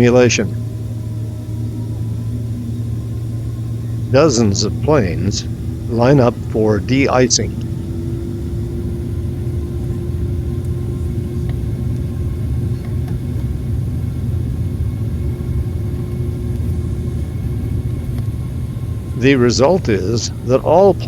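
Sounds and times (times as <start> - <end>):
airliner cabin rumble: 0.0 - 21.0
constant humming tone: 0.0 - 21.0.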